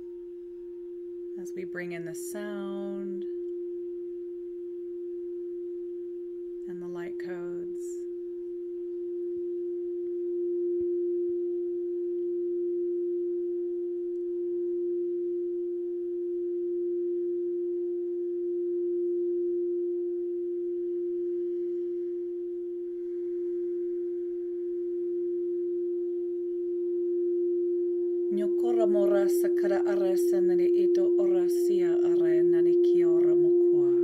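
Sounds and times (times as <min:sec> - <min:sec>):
singing bowl tone: 0:00.0 - 0:34.0.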